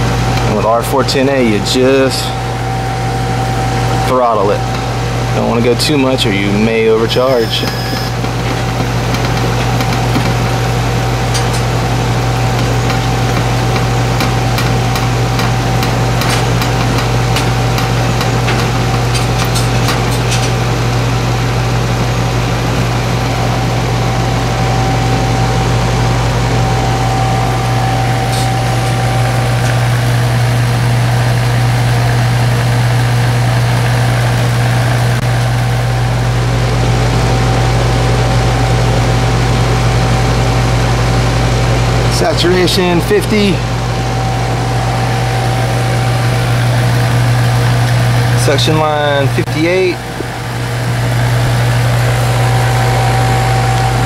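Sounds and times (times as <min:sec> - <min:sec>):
compressor and fan humming: 0:00.0 - 0:54.0.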